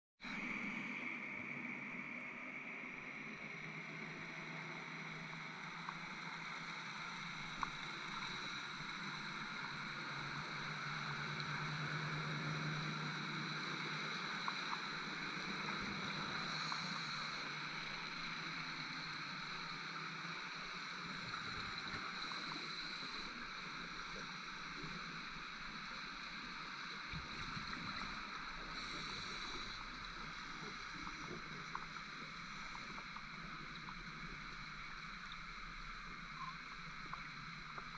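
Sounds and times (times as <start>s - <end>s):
underwater hiss: 0.3s - 37.9s
faint clicks: 5.0s - 9.8s, 10.5s - 26.1s, 26.8s - 37.9s
scuba regulator bubbles gurgling: 7.2s - 37.9s.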